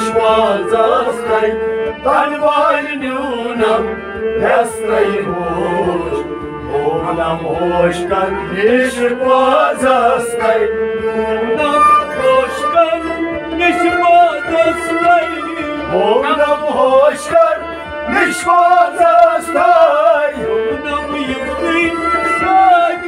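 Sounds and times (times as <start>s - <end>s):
bowed and plucked strings: 0.0s - 23.0s
men singing: 0.0s - 23.0s.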